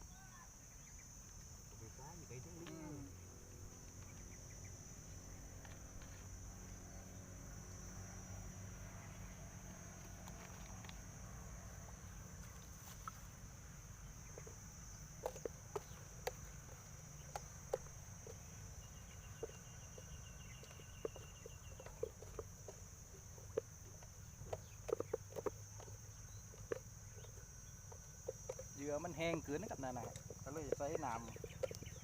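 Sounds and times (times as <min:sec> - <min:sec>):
insect chirring: 0:00.0 - 0:32.0.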